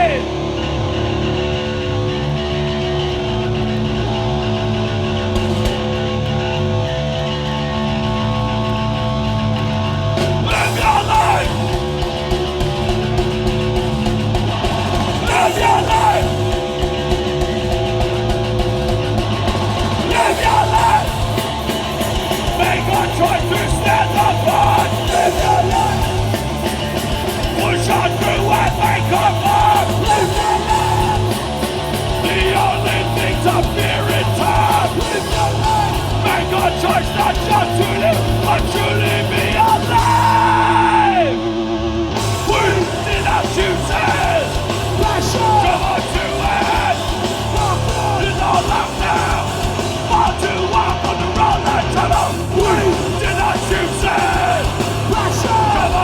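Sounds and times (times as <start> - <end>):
loud hardcore punk music: 0.0 - 56.0.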